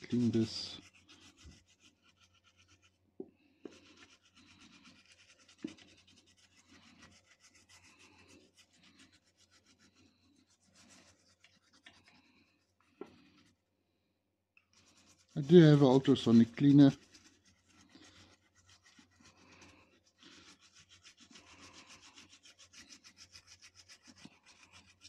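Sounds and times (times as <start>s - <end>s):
rapid scrubbing on circuit board: 0.0s - 3.0s, 3.6s - 13.6s, 14.6s - 25.0s.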